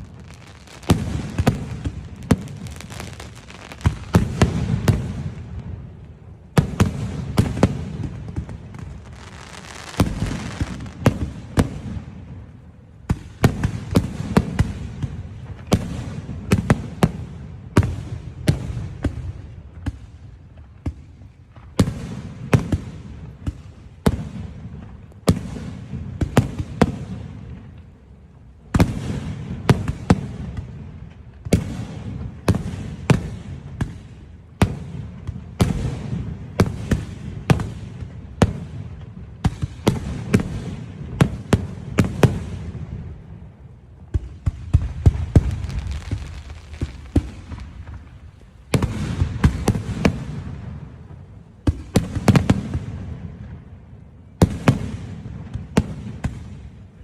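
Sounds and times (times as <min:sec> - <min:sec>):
fireworks bursting with crackle: 0:00.0 - 0:57.0.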